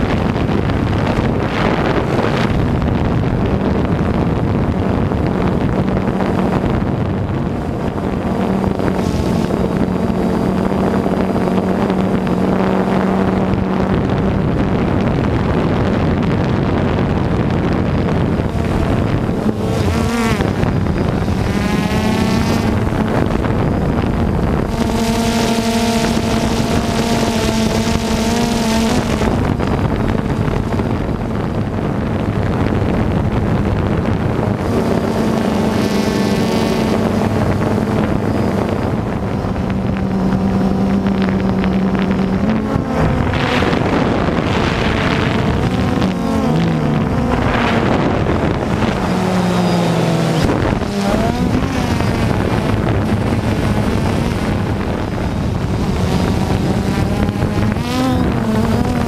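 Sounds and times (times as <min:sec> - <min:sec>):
drone propellers humming: 0:00.0 - 0:59.0
wind noise on microphone: 0:00.0 - 0:59.0.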